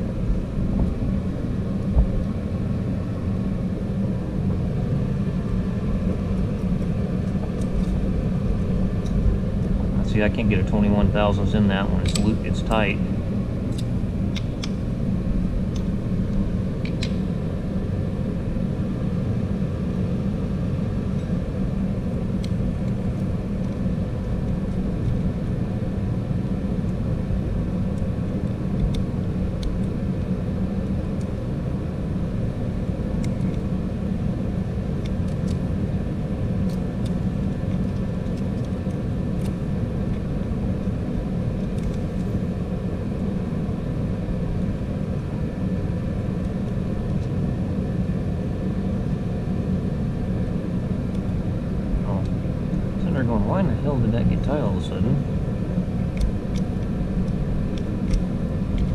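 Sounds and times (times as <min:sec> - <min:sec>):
heater low rumble: 0:00.0 - 0:58.9.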